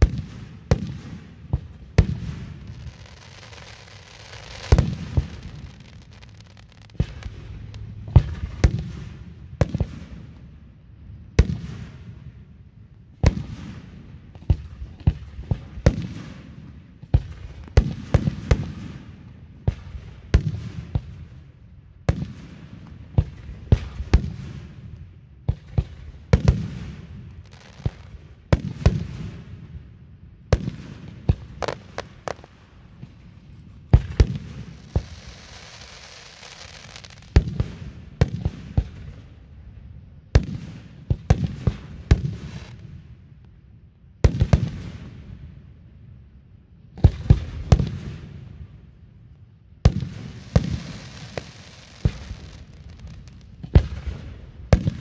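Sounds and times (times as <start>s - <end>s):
fireworks bursting with bangs: 0.0s - 10.4s, 13.2s - 21.4s, 22.0s - 24.9s, 25.5s - 29.8s, 30.5s - 39.4s, 40.3s - 42.8s, 44.2s - 45.3s, 47.0s - 48.6s, 49.8s - 55.0s.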